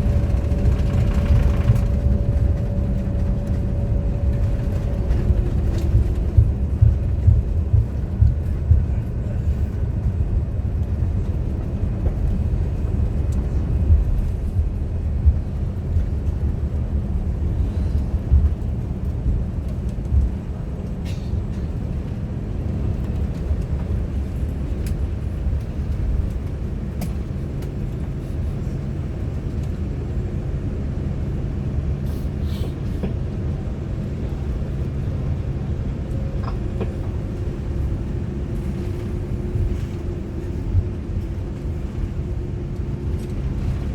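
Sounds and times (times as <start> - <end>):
airliner rumbling on runway: 0.0 - 43.9.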